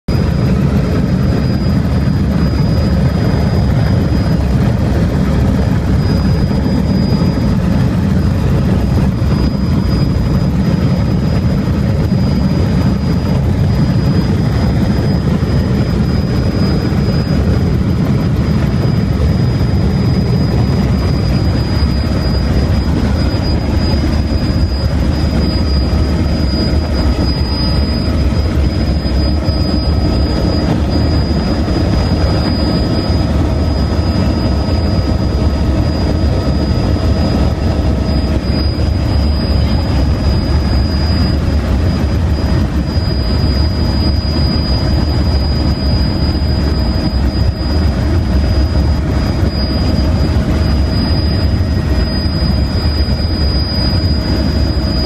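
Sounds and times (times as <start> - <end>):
helicopter rotor and engine drone: 0.0 - 55.0
thin high whine: 0.1 - 55.0.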